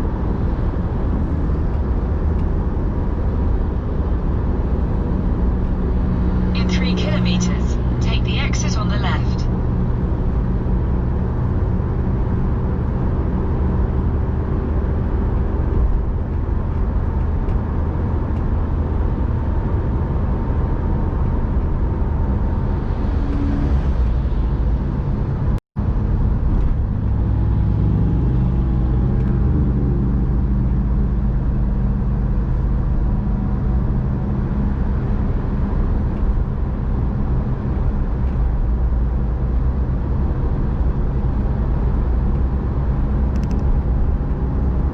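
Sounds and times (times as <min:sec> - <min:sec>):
car engine drone: 0:00.0 - 0:44.9
road noise: 0:00.0 - 0:44.9.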